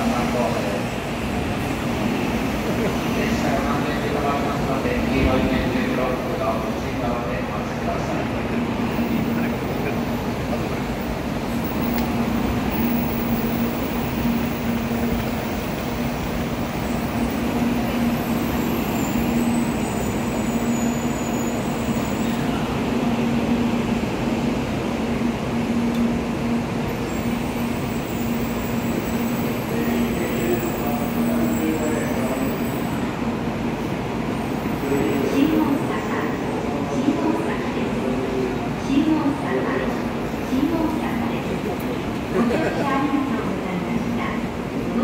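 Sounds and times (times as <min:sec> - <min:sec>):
train rumbling into platform: 0:00.0 - 0:45.0.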